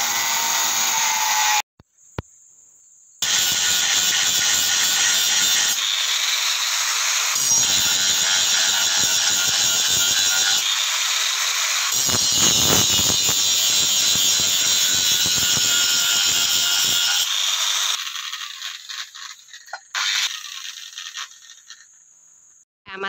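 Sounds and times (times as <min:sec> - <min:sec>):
angle grinder grinding steel: 0:00.0 - 0:01.6, 0:03.2 - 0:22.0.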